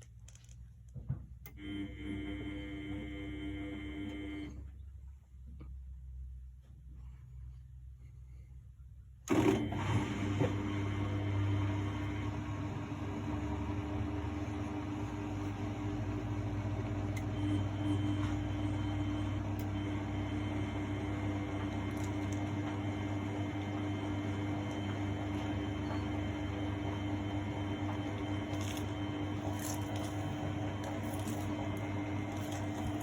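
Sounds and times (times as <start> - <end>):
washing machine motor hum: 1.4 - 4.9, 9.2 - 33.0.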